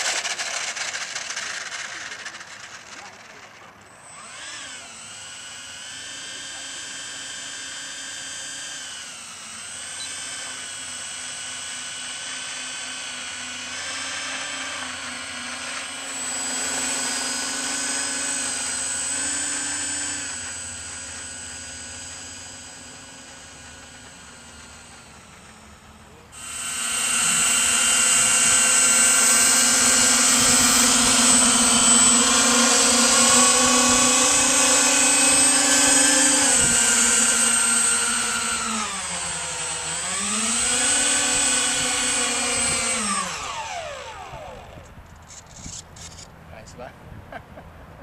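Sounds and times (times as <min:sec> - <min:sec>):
model jet engines whining: 0:00.0 - 0:46.9.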